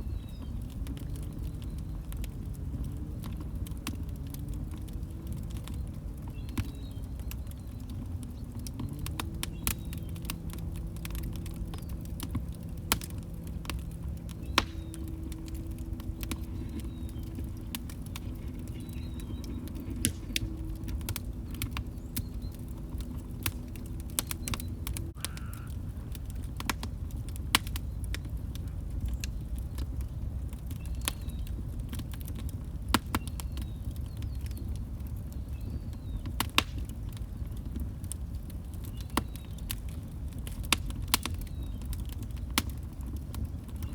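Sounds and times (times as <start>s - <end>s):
fire low rumble: 0.0s - 43.9s
log fire crackling and popping: 0.0s - 43.9s.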